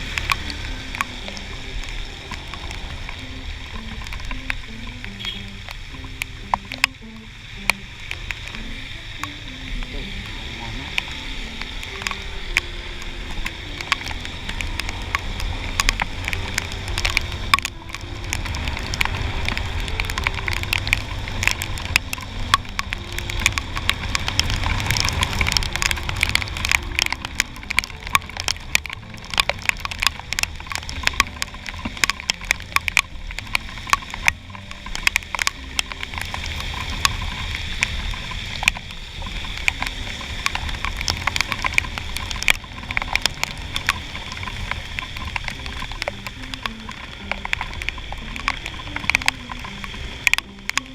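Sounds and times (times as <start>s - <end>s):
raindrops ticking on camera case: 0.0s - 50.9s
scooter engine: 0.0s - 50.9s
wind rumble: 0.0s - 50.9s.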